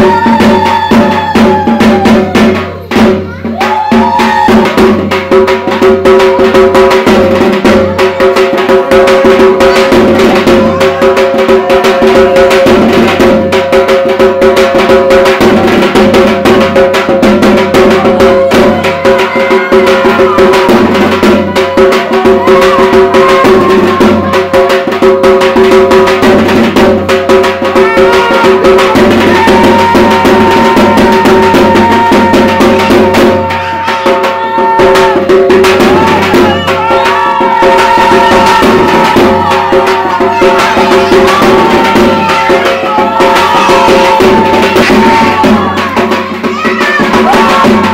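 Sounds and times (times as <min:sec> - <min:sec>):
fast drum strikes: 0:00.0 - 0:47.9.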